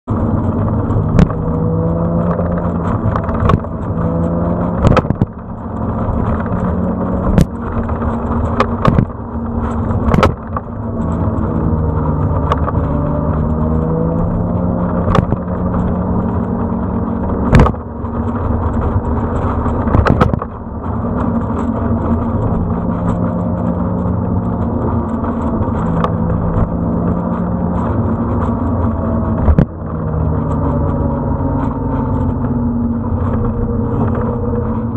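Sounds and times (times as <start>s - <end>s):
road and wind noise: 0.0s - 34.9s
vehicle engine running: 0.0s - 34.9s.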